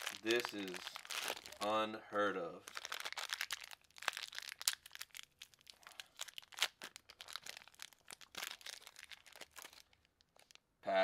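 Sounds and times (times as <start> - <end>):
plastic wrapper crinkling: 0.0 - 10.7.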